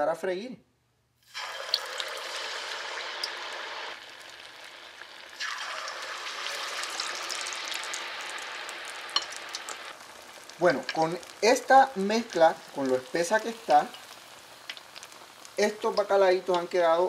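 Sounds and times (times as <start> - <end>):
batter sizzling in hot oil: 1.2 - 17.0.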